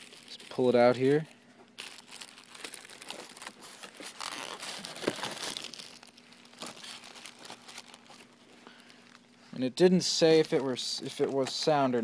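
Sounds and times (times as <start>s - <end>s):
packaging crinkling and rustling: 0.0s - 9.3s, 10.3s - 12.0s.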